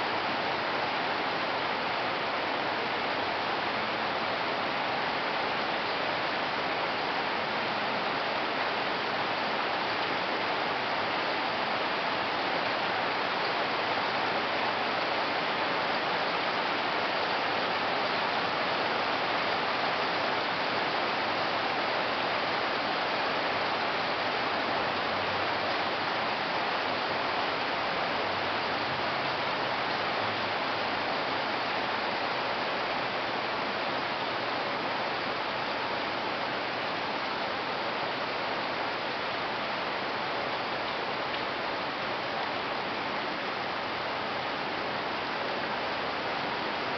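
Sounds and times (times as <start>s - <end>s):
steady rain on trees and pavement: 0.0s - 46.9s.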